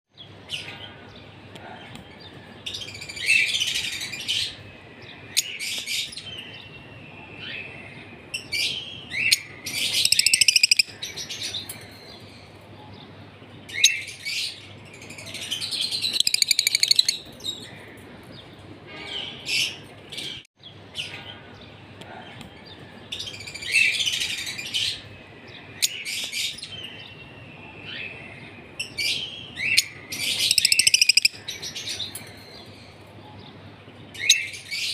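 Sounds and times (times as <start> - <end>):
lovebirds chirping: 0.2 - 34.9
low background noise: 0.2 - 34.9.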